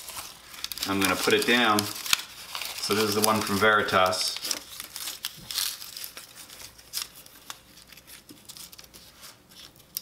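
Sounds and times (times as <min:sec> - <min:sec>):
wood shaving rustling and crinkling: 0:00.0 - 0:10.0.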